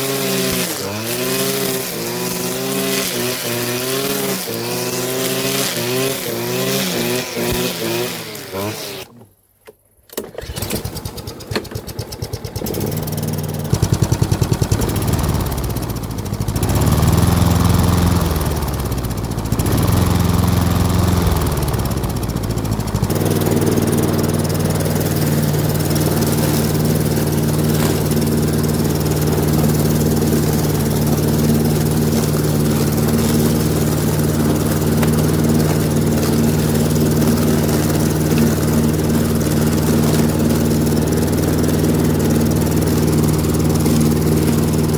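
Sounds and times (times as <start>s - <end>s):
lawn mower engine chugging: 0.0s - 9.1s, 10.2s - 44.9s.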